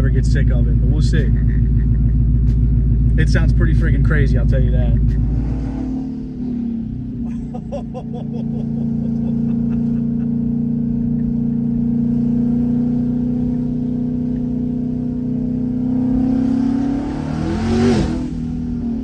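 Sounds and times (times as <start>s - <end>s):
car engine cruising drone: 0.0s - 19.0s.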